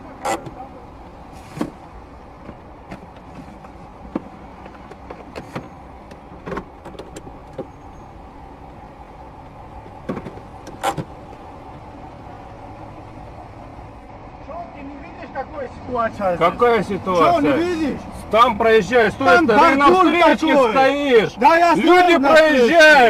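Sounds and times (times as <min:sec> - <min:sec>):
car idling hum: 0:00.0 - 0:23.0.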